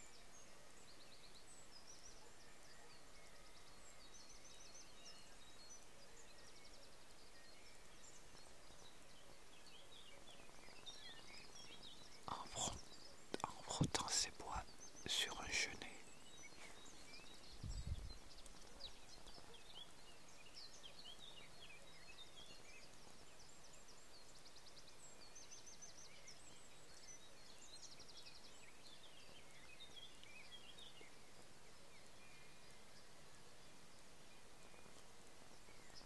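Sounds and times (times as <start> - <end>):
background hiss: 0.0 - 36.0
small birds chirping and trilling: 0.0 - 36.0.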